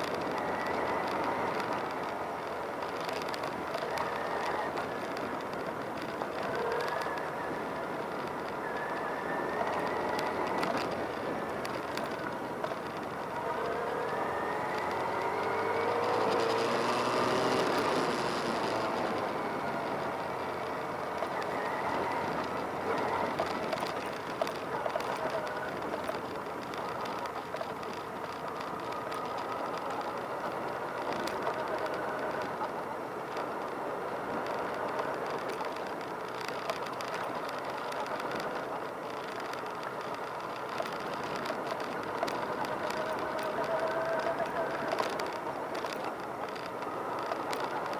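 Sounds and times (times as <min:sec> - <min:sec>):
motorcycle engines running: 0:00.0 - 0:47.9.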